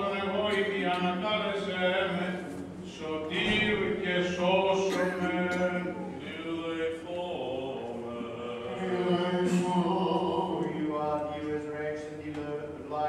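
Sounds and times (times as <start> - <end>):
men chanting a hymn: 0.0 - 13.0.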